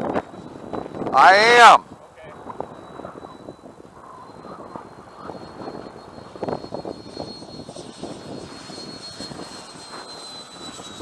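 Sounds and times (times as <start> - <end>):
electric ducted fan whine: 0.0 - 11.0
wind buffeting microphone: 0.0 - 11.0.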